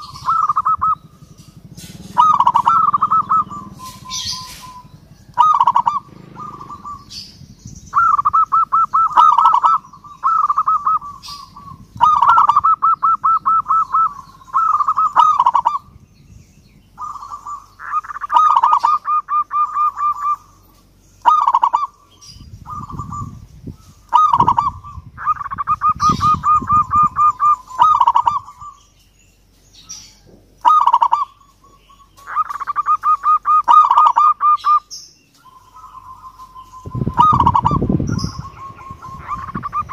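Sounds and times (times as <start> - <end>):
dove cooing: 0.0 - 28.9, 29.8 - 39.9.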